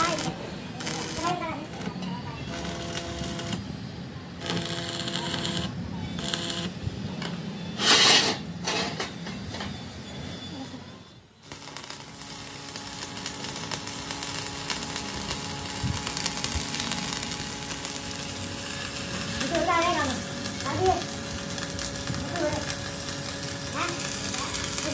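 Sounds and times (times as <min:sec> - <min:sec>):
welding arc crackling: 0:00.0 - 0:08.1, 0:11.4 - 0:24.9.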